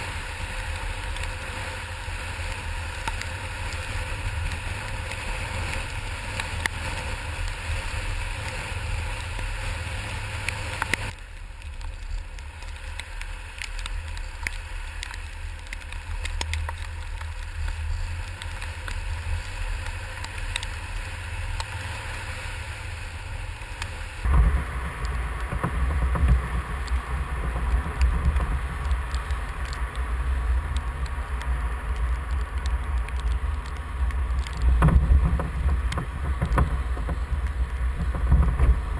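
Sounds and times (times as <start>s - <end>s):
road vehicle noise: 0.0s - 38.9s
wind rumble on microphone: 0.0s - 38.9s.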